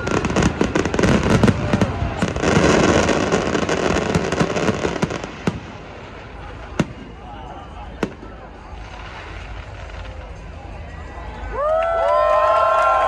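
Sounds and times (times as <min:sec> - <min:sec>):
fireworks crackling and popping: 0:00.0 - 0:11.2
continuous rumble: 0:00.0 - 0:13.0.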